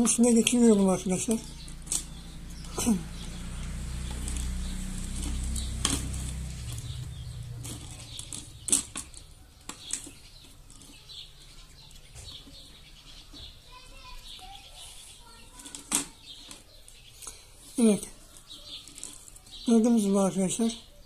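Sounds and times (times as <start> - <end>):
dry sticks rustling against plastic: 0.0 - 20.6.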